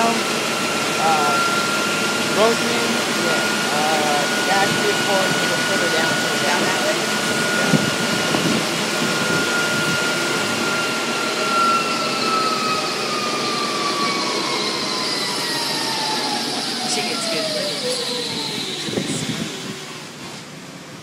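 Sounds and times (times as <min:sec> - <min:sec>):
car running on dynamometer rollers: 0:00.0 - 0:21.0
high mechanical whine: 0:00.0 - 0:21.0.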